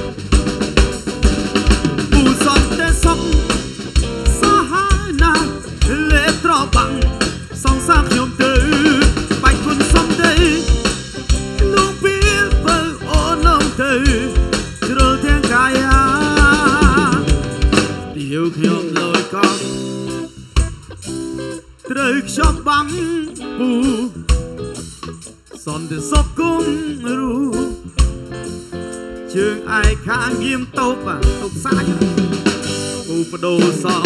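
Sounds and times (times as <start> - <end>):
live band playing pop song: 0.0 - 34.0.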